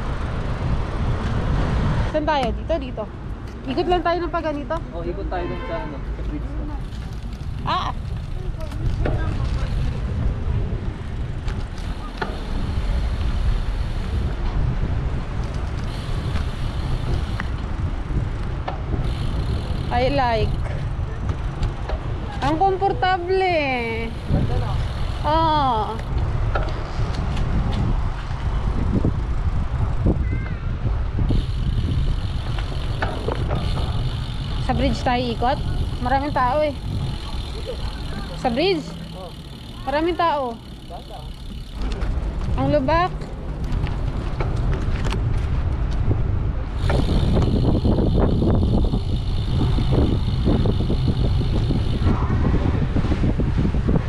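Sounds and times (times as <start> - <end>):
wind rushing over microphone: 0.0 - 54.0
tyres rolling over bumpy path: 6.0 - 53.4.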